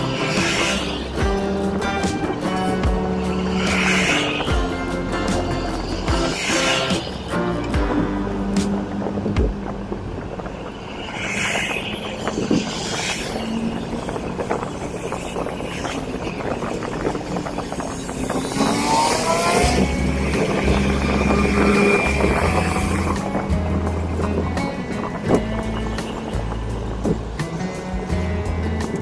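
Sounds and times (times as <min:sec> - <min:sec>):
low bass notes: 0:00.0 - 0:11.1, 0:13.4 - 0:29.0
car engine and road noise: 0:00.0 - 0:29.0.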